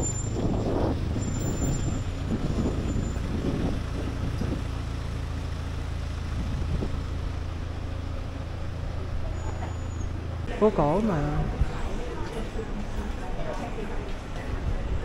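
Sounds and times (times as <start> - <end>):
engine idling: 0.0 - 14.3.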